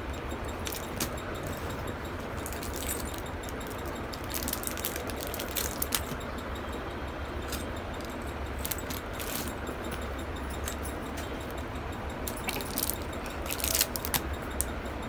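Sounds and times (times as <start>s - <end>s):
anklets and bangles jingling: 0.4s - 6.7s, 7.3s - 15.0s.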